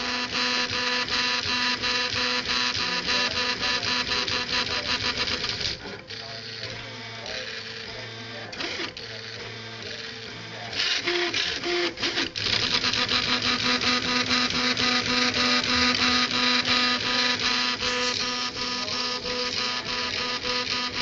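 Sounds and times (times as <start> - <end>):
printer stepper motors whining: 0.0 - 21.0.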